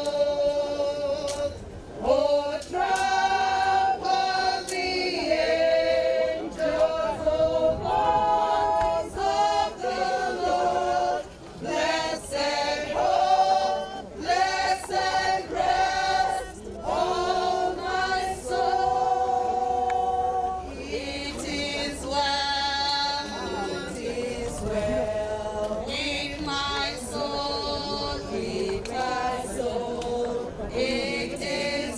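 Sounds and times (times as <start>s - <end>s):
group singing unaccompanied: 0.0s - 31.9s.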